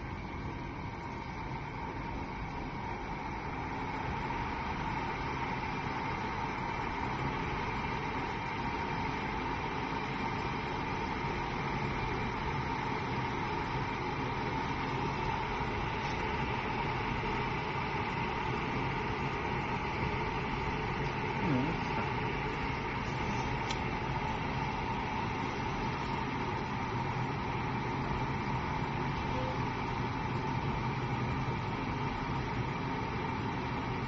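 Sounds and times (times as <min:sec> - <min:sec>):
electric kettle heating water: 0:00.0 - 0:34.0.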